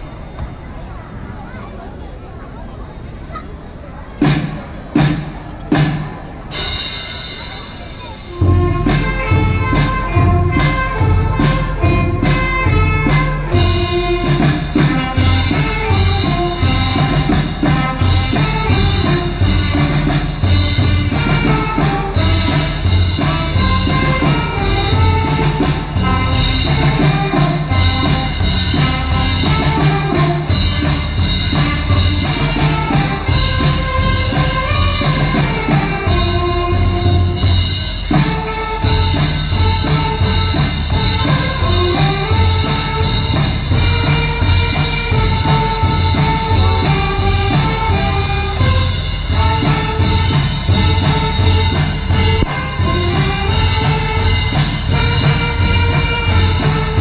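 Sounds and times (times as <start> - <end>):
brass band playing: 4.2 - 57.0
steady drum beat: 4.2 - 57.0.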